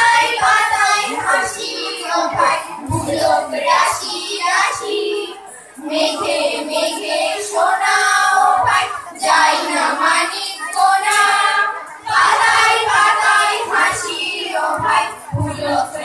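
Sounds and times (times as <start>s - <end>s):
girls singing into microphones: 0.0s - 16.0s.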